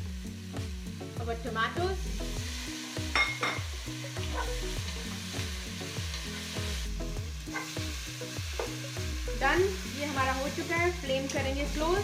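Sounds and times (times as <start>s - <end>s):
background music: 0.0s - 12.0s
onions sizzling in hot oil: 0.0s - 12.0s.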